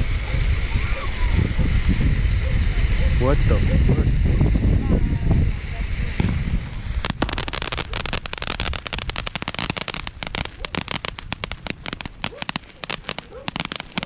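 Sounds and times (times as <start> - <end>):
firecrackers popping: 0.0 - 14.0.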